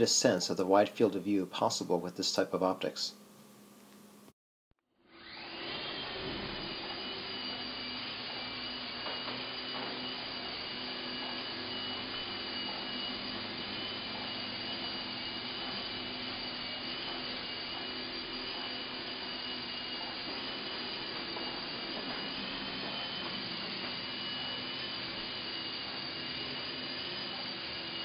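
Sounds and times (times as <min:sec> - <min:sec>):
toy helicopter whirring: 0:05.0 - 0:28.0.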